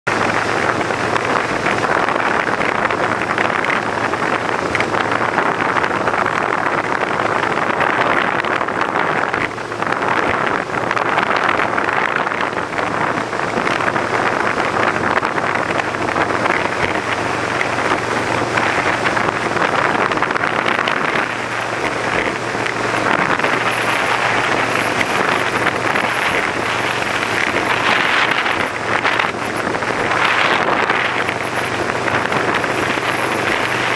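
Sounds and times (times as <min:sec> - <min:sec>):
boat engine humming: 0:00.1 - 0:33.9
wind rushing over microphone: 0:00.1 - 0:33.9.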